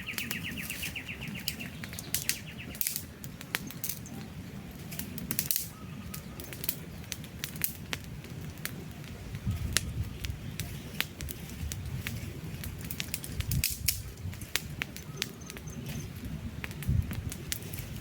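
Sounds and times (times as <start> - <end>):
campfire crackling and popping: 0.0 - 18.0
flames rushing: 0.0 - 18.0.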